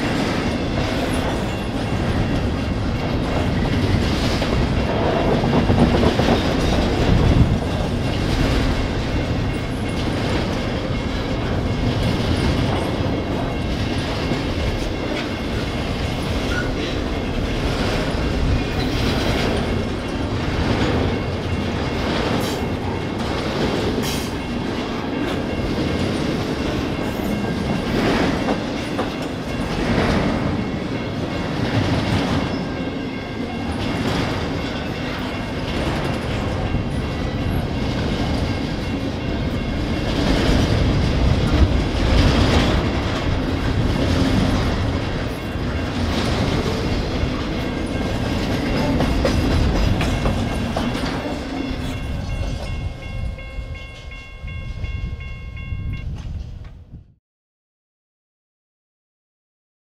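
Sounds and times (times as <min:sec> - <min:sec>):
clickety-clack over rail joints: 0:00.0 - 0:55.0, 0:55.9 - 0:57.0
train wheels rumbling on rails: 0:00.0 - 0:57.1.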